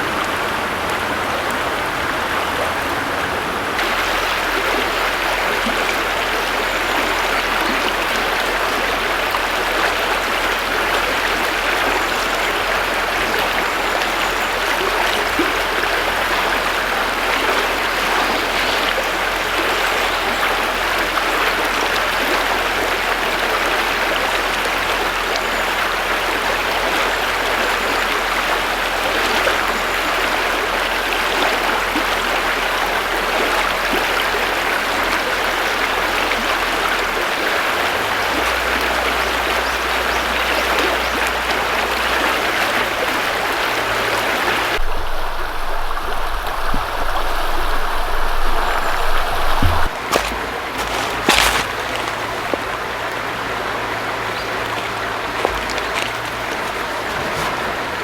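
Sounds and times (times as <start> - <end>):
river water over stones: 0.0 - 58.0.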